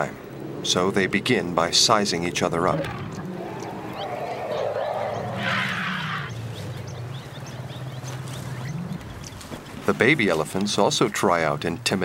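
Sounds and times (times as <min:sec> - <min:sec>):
elephant low rumble: 0:00.0 - 0:10.8
small birds chirping: 0:00.0 - 0:12.0.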